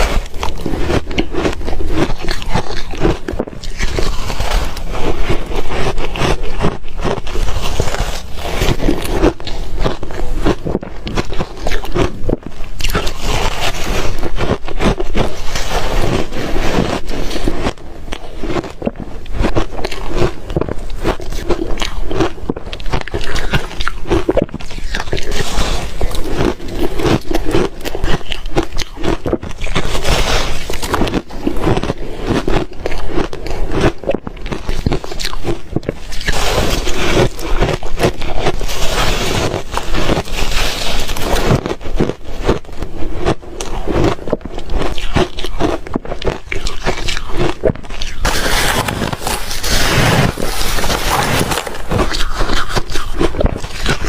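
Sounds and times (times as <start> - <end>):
person chewing ice: 0.0 - 54.0.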